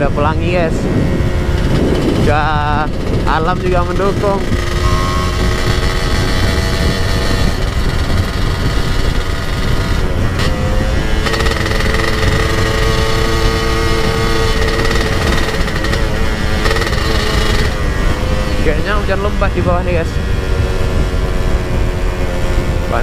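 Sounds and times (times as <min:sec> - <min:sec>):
wind rumble on microphone: 0:00.0 - 0:23.0
two-stroke scooter engine: 0:01.2 - 0:23.0.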